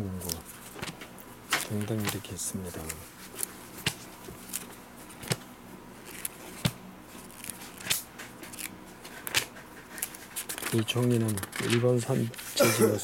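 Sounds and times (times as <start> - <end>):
paper rustling: 0.1 - 5.4, 6.0 - 12.6
catalogue pages flipping: 0.1 - 12.6.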